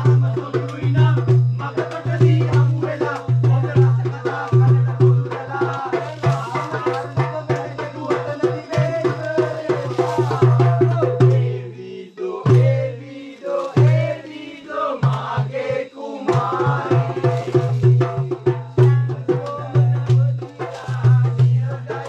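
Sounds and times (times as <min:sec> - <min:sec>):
hand drum beat: 0:00.0 - 0:11.8, 0:12.4 - 0:22.0.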